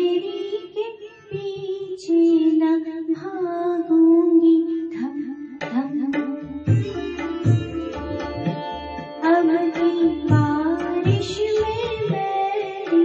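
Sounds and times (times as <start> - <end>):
soft instrumental accompaniment: 0.0 - 13.0.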